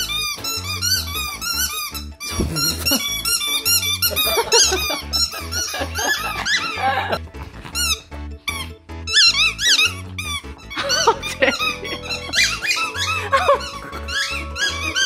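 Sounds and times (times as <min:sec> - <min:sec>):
bouncy background music: 0:00.0 - 0:15.0
rubber toy squeaking: 0:00.0 - 0:15.0.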